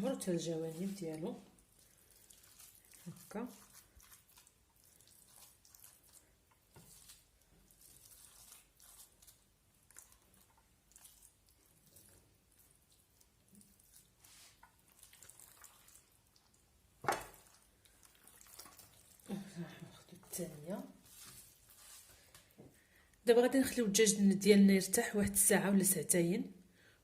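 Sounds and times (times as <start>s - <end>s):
wet squelching of stuffing: 0.0s - 22.6s.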